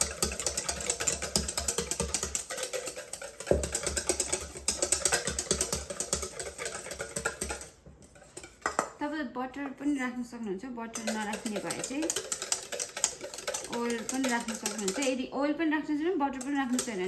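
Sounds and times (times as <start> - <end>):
utensil beating egg in a bowl: 0.0 - 10.0, 10.9 - 17.0.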